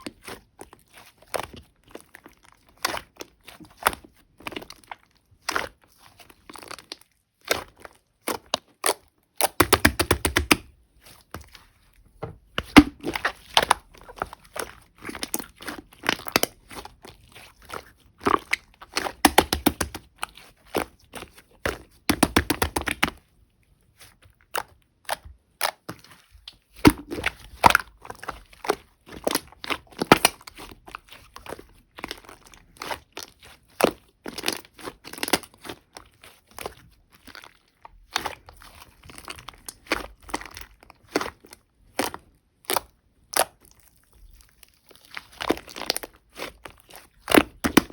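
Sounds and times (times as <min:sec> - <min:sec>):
slime squishing with sticky pops: 0:00.0 - 0:23.3, 0:23.9 - 0:47.9.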